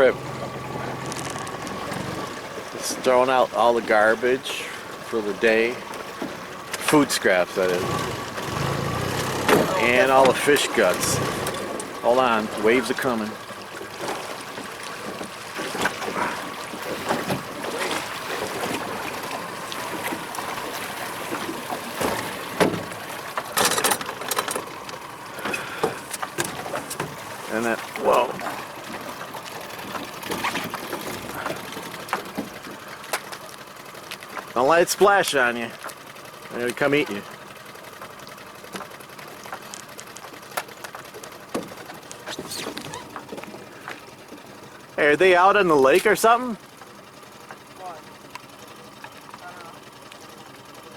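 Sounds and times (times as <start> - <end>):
small boat motor idling: 0.0 - 50.9
waves splashing and lapping: 0.0 - 50.9.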